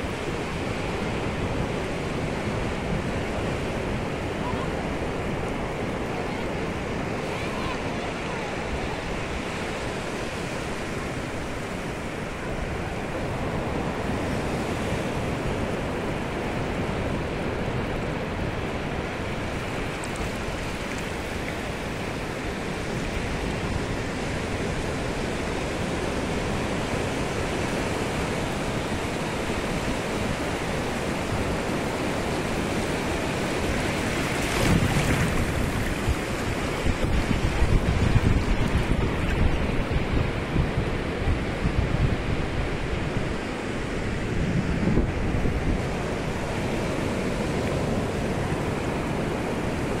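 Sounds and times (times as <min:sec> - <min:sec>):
small waves breaking on sand: 0:00.0 - 0:50.0.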